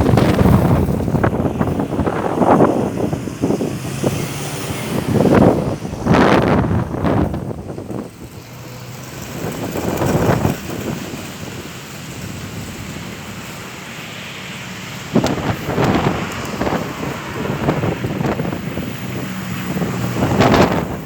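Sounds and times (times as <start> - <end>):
wind buffeting microphone: 0.0 - 14.0, 14.6 - 21.0
strong gusty wind: 0.0 - 21.0.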